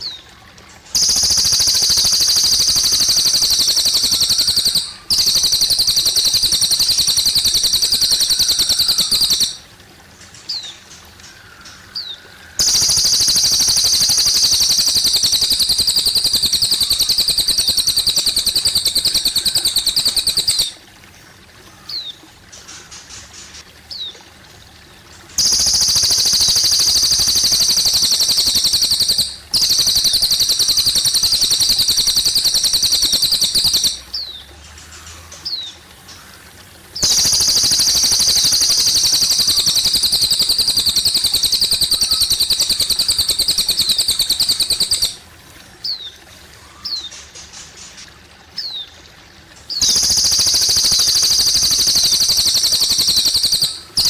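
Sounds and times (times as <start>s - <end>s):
bird singing rapid high trills: 0.0s - 9.7s, 11.6s - 20.8s, 25.3s - 36.2s, 37.0s - 47.9s, 49.7s - 54.0s
water trickling: 0.0s - 54.0s.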